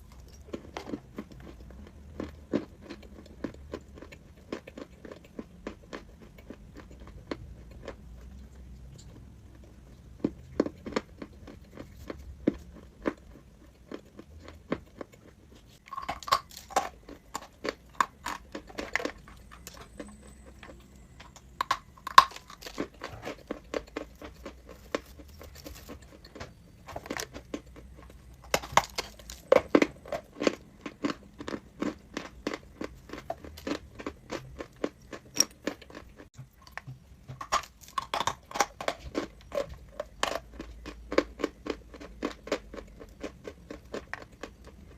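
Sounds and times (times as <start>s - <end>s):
person chewing crunchy chalk: 0.0s - 44.9s.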